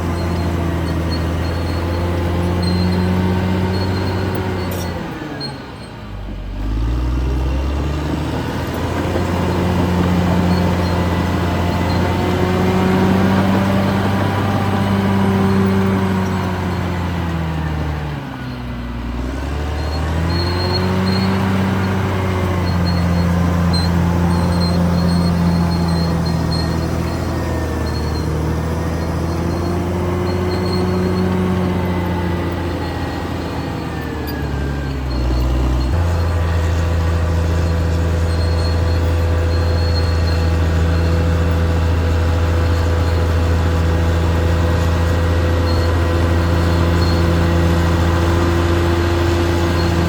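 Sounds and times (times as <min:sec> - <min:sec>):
bulldozer diesel engine revving: 0:00.0 - 0:50.0.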